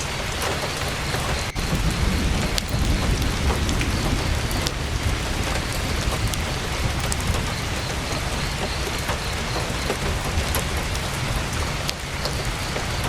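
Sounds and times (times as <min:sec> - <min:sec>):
heavy rain on tent canvas: 0:00.0 - 0:13.0
sharp clicks: 0:00.0 - 0:13.0
deep low rumble: 0:01.1 - 0:13.0.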